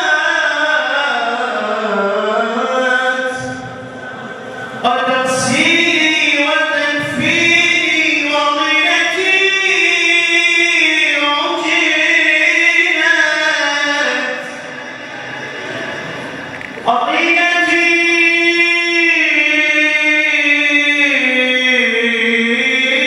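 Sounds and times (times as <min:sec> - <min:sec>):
man singing held ornamented notes: 0:00.0 - 0:23.0.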